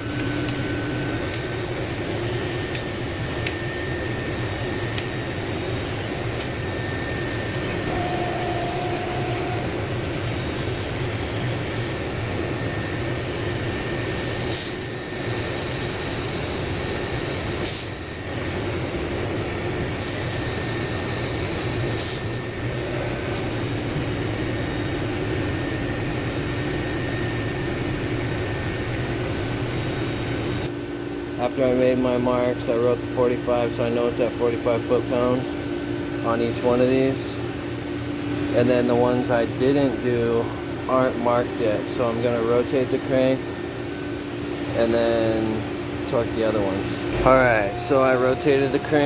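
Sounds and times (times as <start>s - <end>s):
fan hum: 0.0s - 49.0s.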